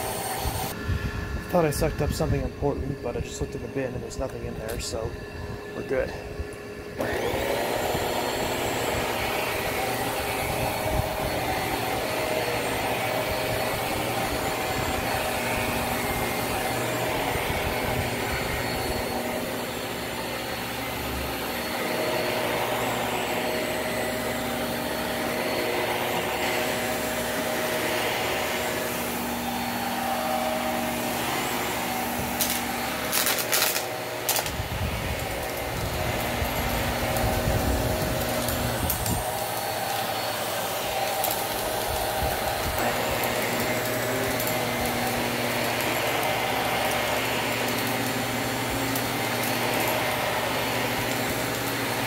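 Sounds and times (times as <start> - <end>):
vacuum cleaner running on carpet: 0.0 - 52.0
vacuum motor spinning up: 0.0 - 52.0.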